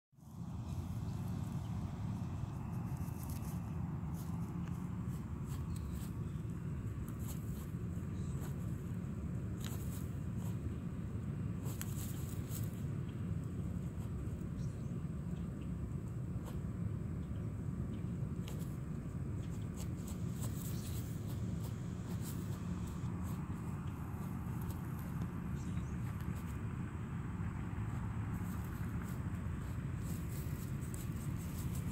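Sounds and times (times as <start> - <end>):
rustling in dry grass and leaves: 0.2 - 31.9
steady low rumble: 0.2 - 31.9.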